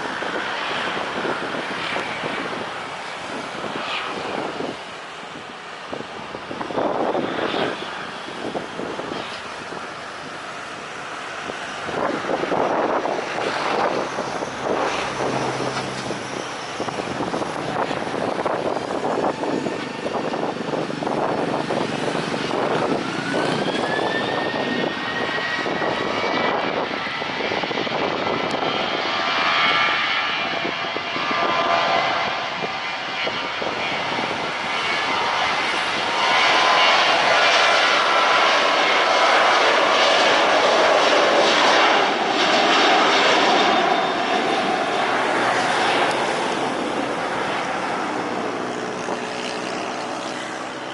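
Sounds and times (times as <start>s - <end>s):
high-pitched engine whine: 0.0s - 50.9s
jet engines rushing: 0.0s - 50.9s.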